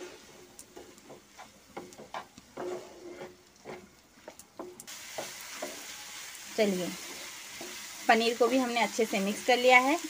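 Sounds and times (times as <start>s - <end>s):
wooden spatula scraping frying pan: 0.0s - 10.0s.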